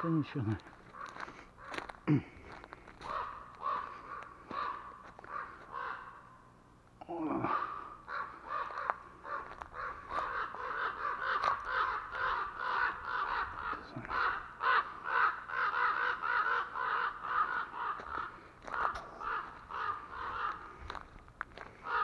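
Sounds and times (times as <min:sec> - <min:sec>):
crows cawing: 0:00.0 - 0:06.5, 0:07.1 - 0:22.0.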